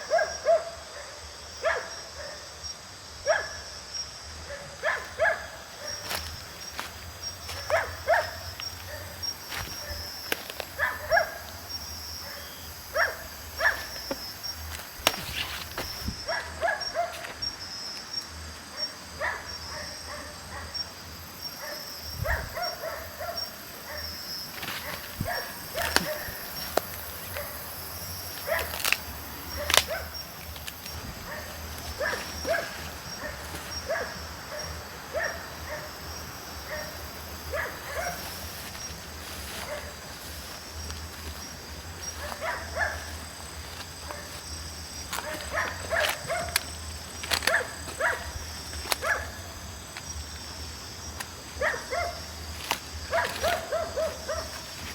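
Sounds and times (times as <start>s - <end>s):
pulsing insect chirp: 0.0s - 54.9s.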